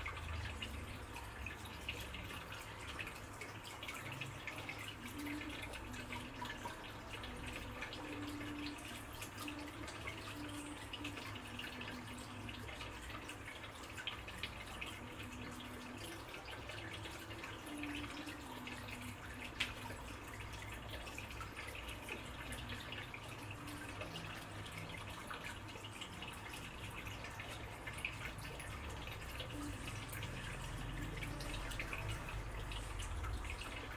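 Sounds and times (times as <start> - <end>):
water dripping and trickling: 0.0 - 33.9.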